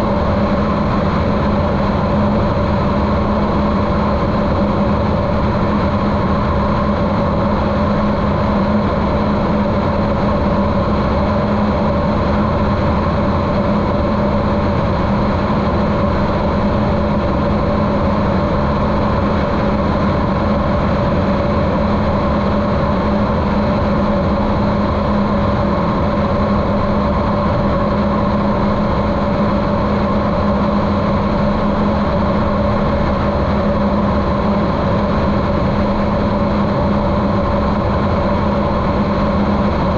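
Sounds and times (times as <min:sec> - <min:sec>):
muffled aircraft engine drone: 0:00.0 - 0:39.9.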